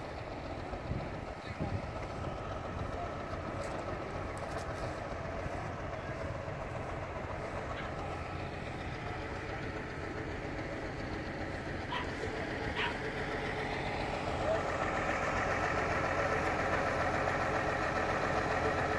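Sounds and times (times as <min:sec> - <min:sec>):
tractor engine idling: 0:00.0 - 0:18.9.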